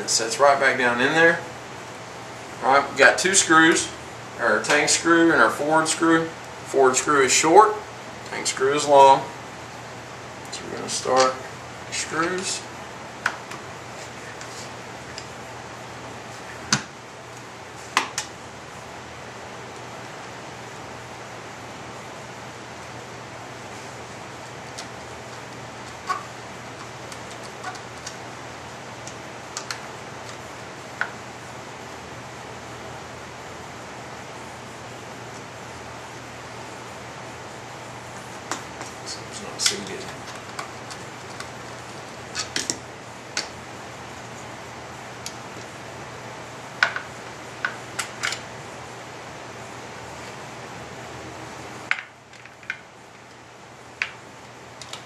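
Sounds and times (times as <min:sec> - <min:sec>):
background hum: 0:00.0 - 0:55.0
steady hiss: 0:00.0 - 0:55.0.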